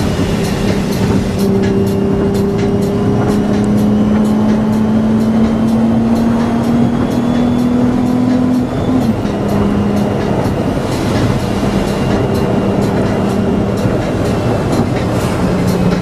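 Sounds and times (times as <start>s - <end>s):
car engine droning accelerating: 0.0s - 16.0s.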